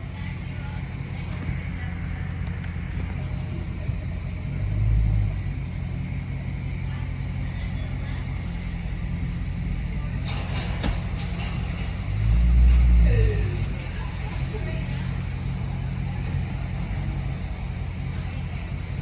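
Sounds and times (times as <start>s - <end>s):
car engine deep rumble: 0.0s - 19.0s.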